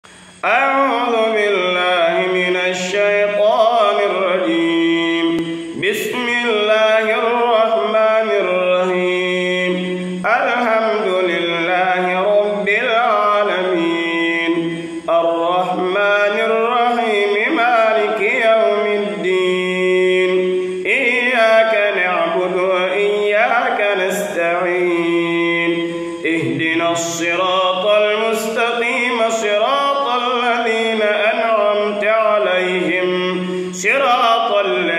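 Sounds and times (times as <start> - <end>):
man chanting recitation: 0.4 - 34.9.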